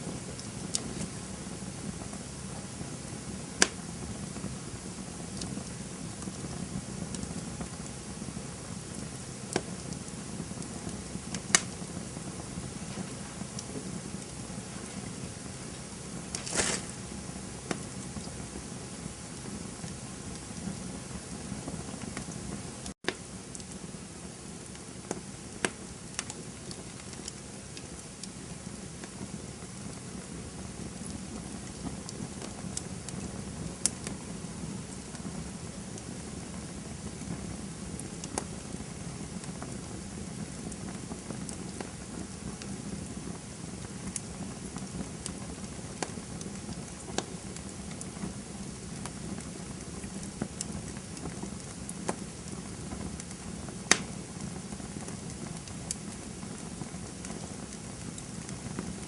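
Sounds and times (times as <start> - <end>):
burning wood crackling and popping: 0.0 - 59.0
campfire hissing: 0.0 - 59.0.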